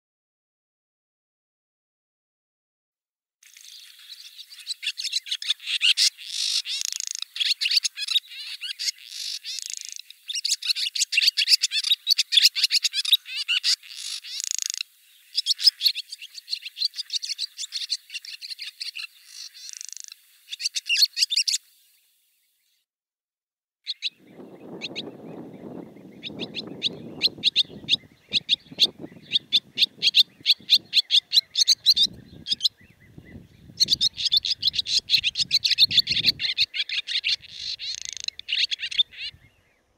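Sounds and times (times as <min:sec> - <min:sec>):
swallow twittering song: 0:03.4 - 0:22.8, 0:23.9 - 0:39.9.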